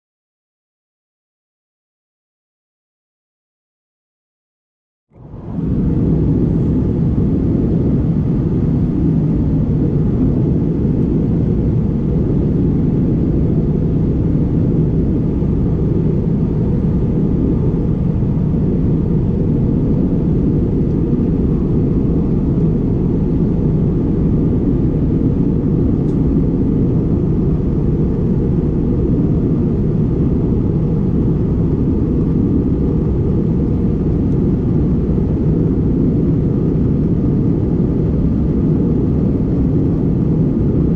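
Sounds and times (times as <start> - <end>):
airplane cabin engine rumble: 5.1 - 40.9.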